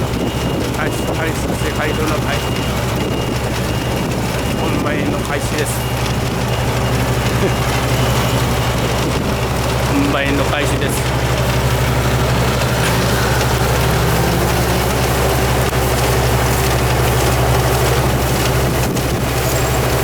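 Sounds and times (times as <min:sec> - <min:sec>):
farm machine engine humming: 0:00.0 - 0:20.0.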